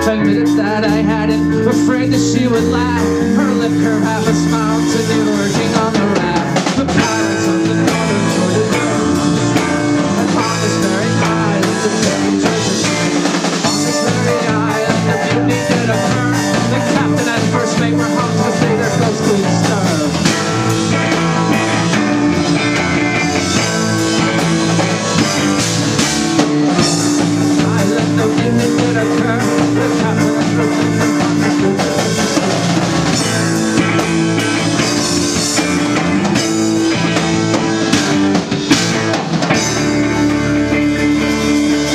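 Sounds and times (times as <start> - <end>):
bass guitar: 0.0 - 41.9
drum kit: 0.0 - 41.9
electric guitar: 0.0 - 41.9.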